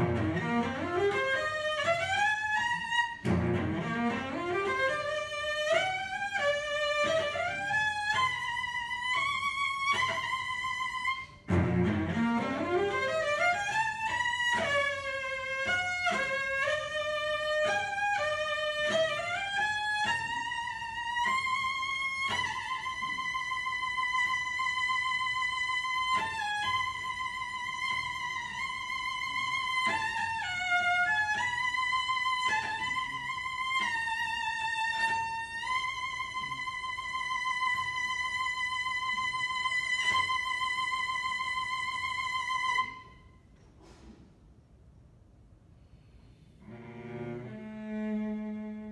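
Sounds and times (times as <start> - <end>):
solo cello playing: 0.0 - 43.4, 45.9 - 48.9.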